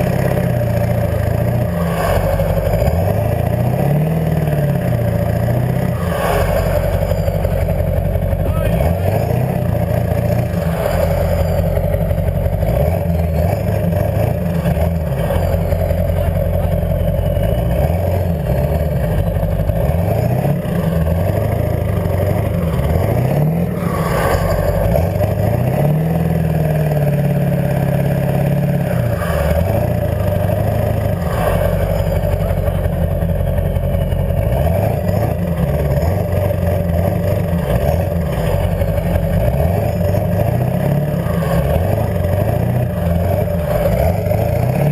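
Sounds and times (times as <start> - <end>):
diesel truck engine revving: 0.0 - 44.9.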